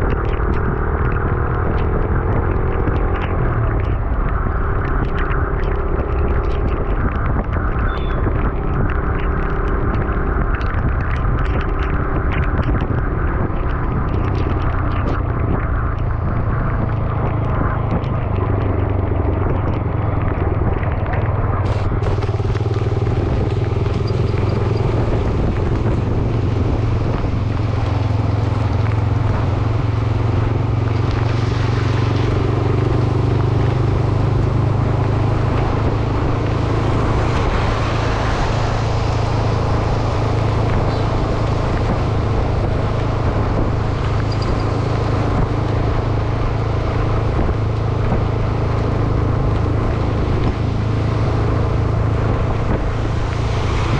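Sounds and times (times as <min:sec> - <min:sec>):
motorcycle engine running: 0:00.0 - 0:53.9
wind and road hiss: 0:00.0 - 0:53.9.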